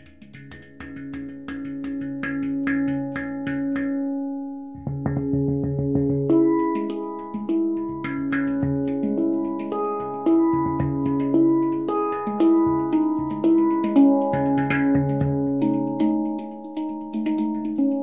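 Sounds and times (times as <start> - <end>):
handpan melody: 0.0 - 18.0.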